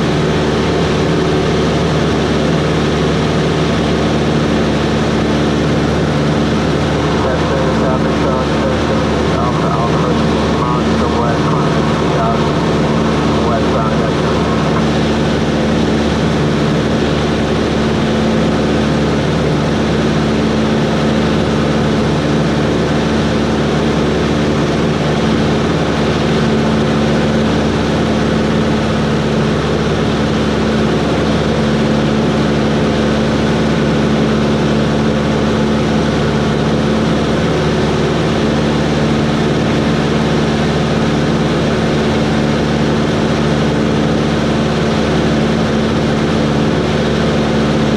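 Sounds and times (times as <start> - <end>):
light aircraft engine droning: 0.0 - 47.9.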